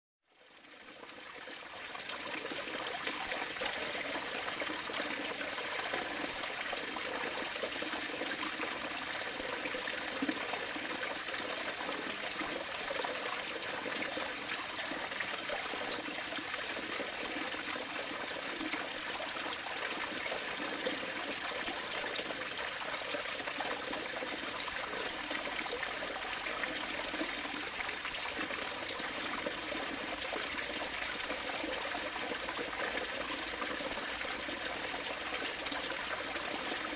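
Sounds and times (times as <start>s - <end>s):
running water: 0.4s - 36.9s.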